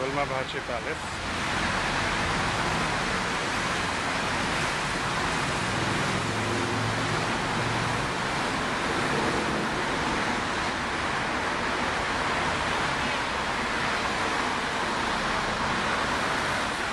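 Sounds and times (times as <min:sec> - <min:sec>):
street traffic roar: 0:00.0 - 0:16.9.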